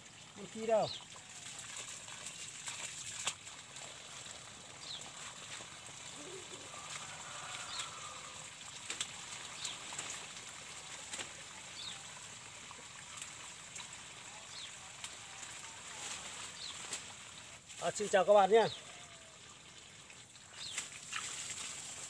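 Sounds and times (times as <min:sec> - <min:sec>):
water running from hose: 0:00.0 - 0:22.0.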